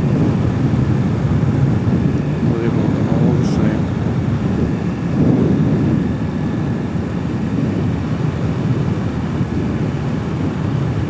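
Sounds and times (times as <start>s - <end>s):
rush of riding wind: 0.0s - 11.0s.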